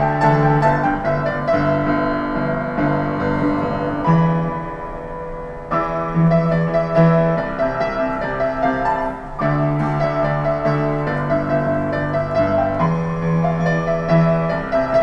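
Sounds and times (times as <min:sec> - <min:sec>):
solo piano pop melody: 0:00.0 - 0:15.0.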